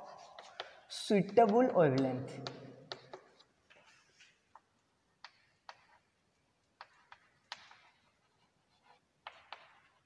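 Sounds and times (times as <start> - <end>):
chalk tapping and scratching: 0.0 - 10.0.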